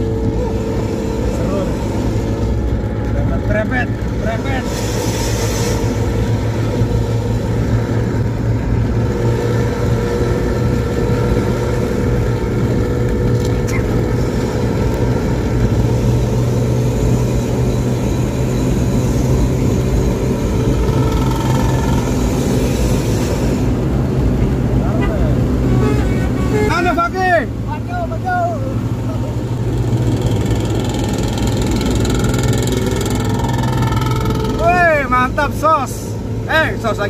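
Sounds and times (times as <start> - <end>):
bus engine growling drone: 0.0 - 37.0.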